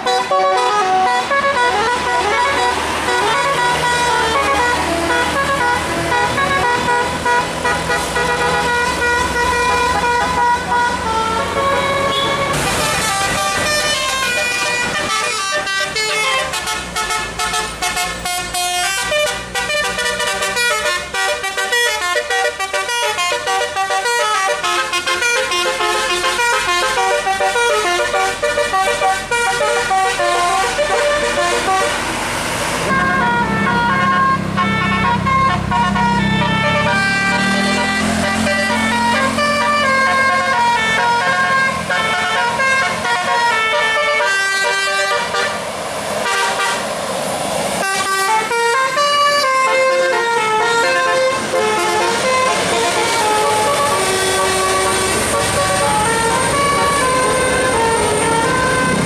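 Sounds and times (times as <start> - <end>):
bus musical air horn melody: 0.0 - 47.0, 47.7 - 59.0.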